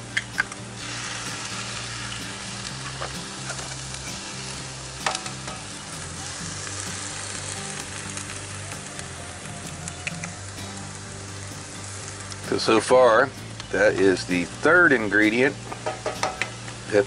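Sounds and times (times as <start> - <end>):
hash sizzling in skillet: 0.0 - 17.0.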